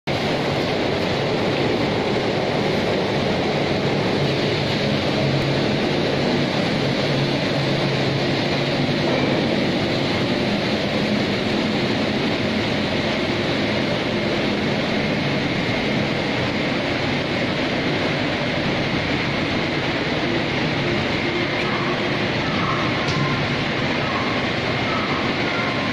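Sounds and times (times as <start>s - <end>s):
machinery hum with high whine: 0.0s - 25.9s.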